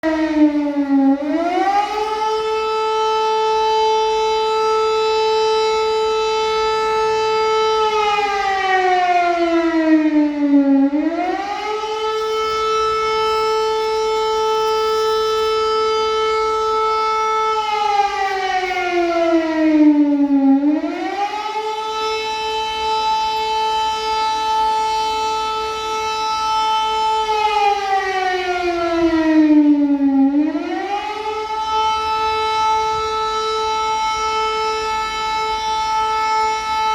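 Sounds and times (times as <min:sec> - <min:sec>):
air-raid siren wailing: 0:00.0 - 0:36.9.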